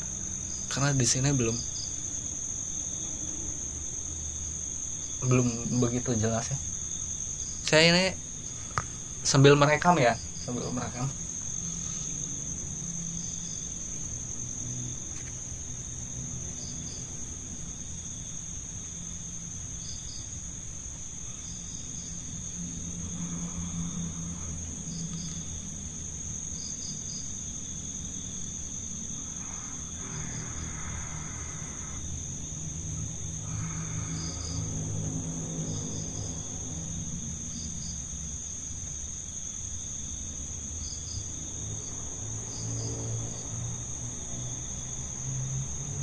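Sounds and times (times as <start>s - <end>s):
cricket chirps: 0.0s - 46.0s
high-pitched insect trill: 0.0s - 46.0s.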